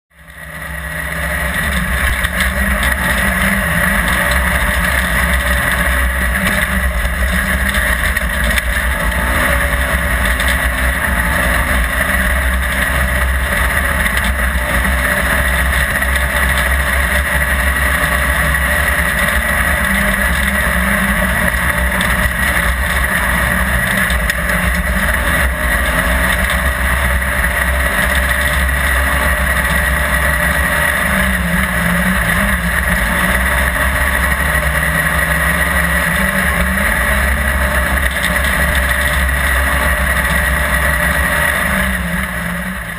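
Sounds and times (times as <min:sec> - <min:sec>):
rally car engine roaring: 0:00.1 - 0:42.9.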